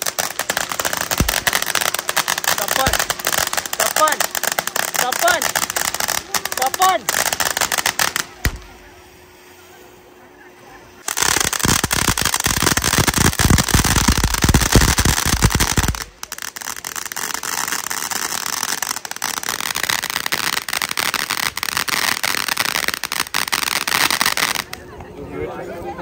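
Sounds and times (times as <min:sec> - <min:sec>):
firecrackers crackling: 0:00.0 - 0:09.9, 0:10.9 - 0:25.0.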